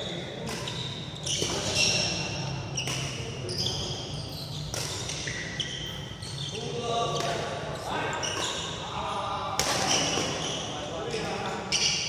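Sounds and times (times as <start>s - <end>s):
shoes squeaking on court floor: 0.0s - 12.0s.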